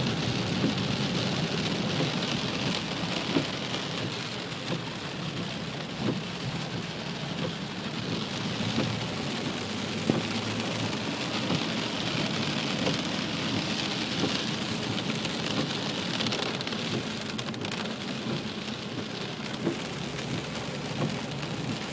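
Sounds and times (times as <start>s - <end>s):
heavy rain falling: 0.0s - 21.9s.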